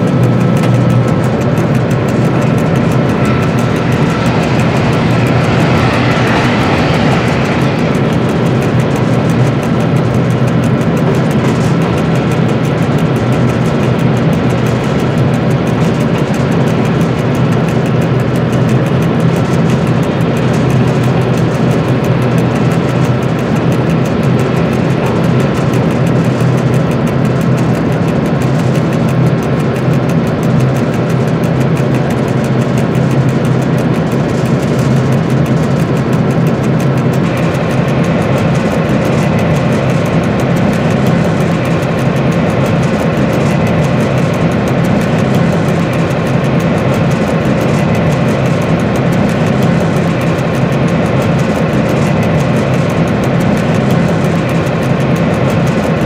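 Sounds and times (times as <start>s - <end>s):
locomotive diesel engine drone: 0.0s - 56.0s
track noise: 0.0s - 56.0s.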